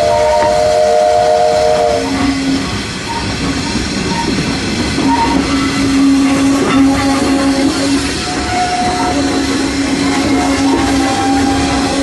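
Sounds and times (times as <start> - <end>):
rail noise: 0.0 - 12.0
steam locomotive running: 0.0 - 12.0.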